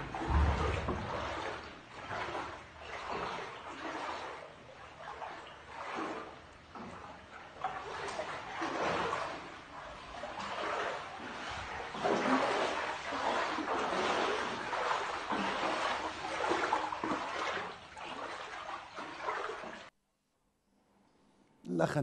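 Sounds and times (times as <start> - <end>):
floodwater sloshing and splashing: 0.0 - 19.9.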